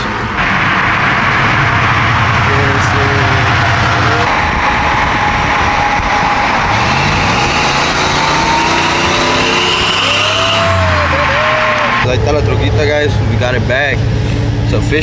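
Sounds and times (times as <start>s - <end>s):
road and wind noise: 0.0s - 15.0s
vehicle engine accelerating: 0.0s - 15.0s.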